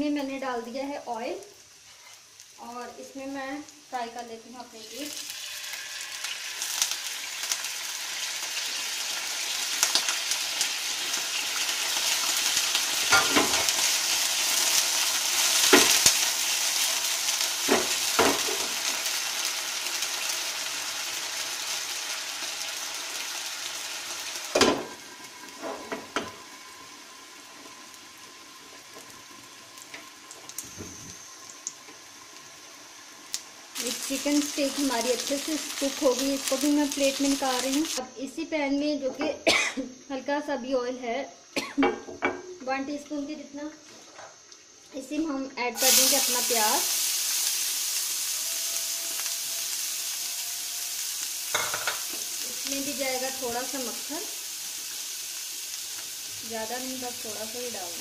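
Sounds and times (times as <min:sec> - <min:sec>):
fries sizzling in hot oil: 0:00.0 - 0:38.1, 0:44.4 - 0:58.0.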